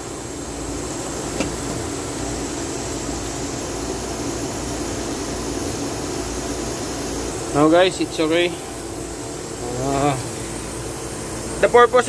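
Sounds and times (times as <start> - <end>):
low machinery hum: 0.0 - 12.0
steady mechanical whir: 0.0 - 12.0.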